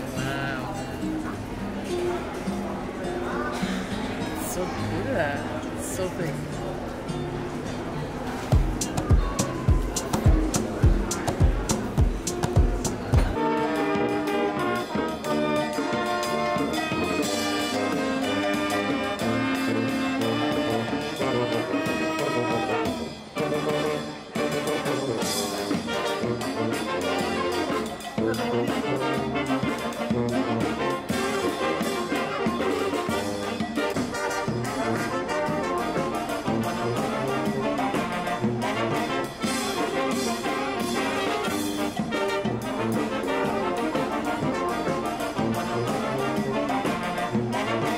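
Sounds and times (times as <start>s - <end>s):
brass music: 8.5s - 47.9s.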